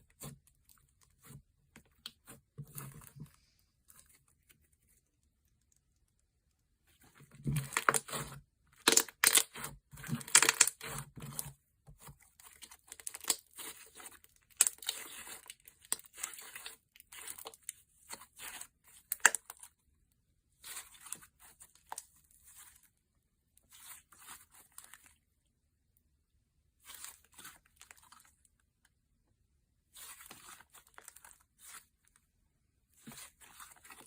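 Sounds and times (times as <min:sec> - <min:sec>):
slime squelching: 0:00.0 - 0:19.8, 0:20.4 - 0:25.4, 0:29.8 - 0:32.1, 0:32.8 - 0:34.0.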